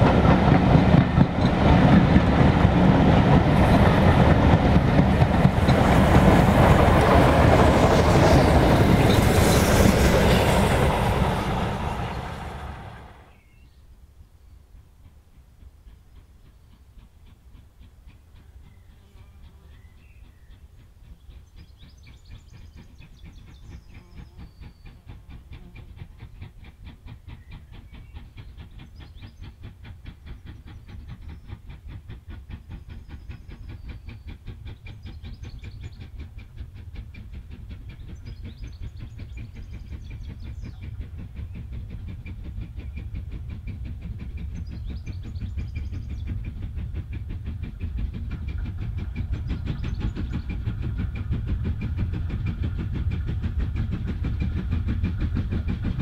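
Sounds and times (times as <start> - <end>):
steam locomotive exhaust chuffs: 0.0 - 56.0.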